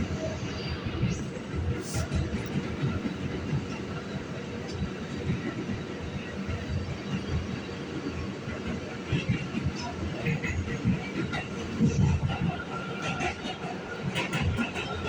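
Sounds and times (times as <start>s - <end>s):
rumble of train wheels on track: 0.0s - 15.0s.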